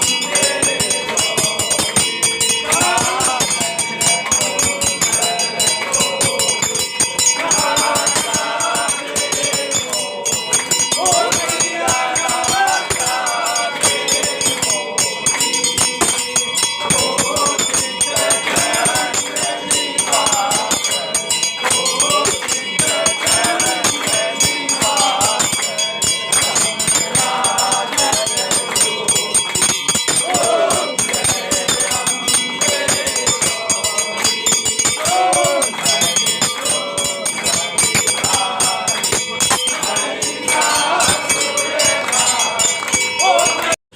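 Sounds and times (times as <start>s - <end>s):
fast steady clanging beat: 0.0s - 43.8s
group singing a hymn: 0.0s - 43.8s
temple bells ringing: 0.0s - 43.8s.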